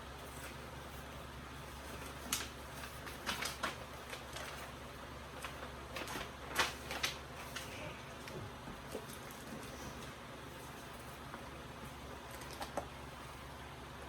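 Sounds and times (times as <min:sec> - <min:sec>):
steady low hum: 0:00.0 - 0:14.0
cards and papers rustling: 0:00.2 - 0:12.9.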